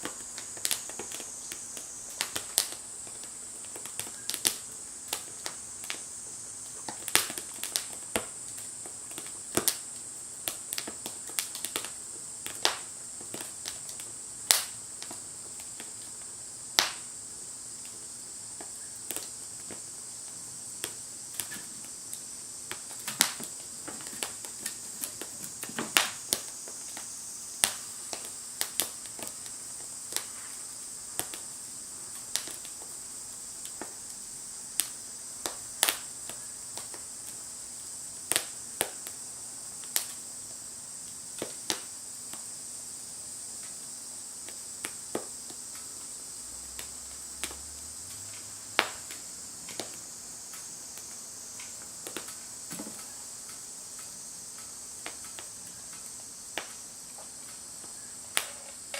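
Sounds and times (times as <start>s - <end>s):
steady high-pitched hiss: 0.0s - 58.9s
wood fire crackling: 0.0s - 58.9s.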